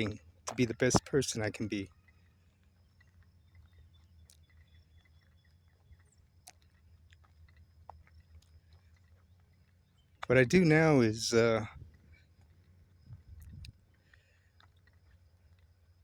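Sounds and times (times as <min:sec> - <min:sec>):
faint low hum: 0:00.0 - 0:16.0
faint ticks: 0:00.0 - 0:16.0.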